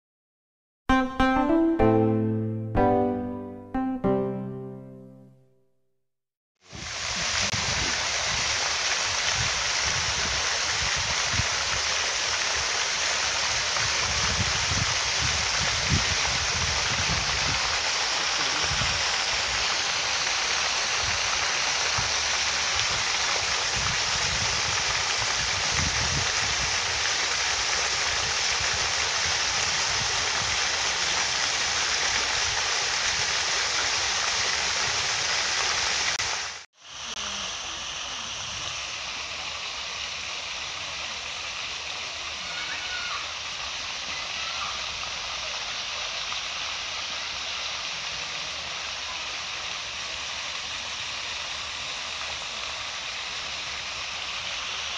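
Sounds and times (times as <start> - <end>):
fountain spray splashing water: 6.6 - 54.9.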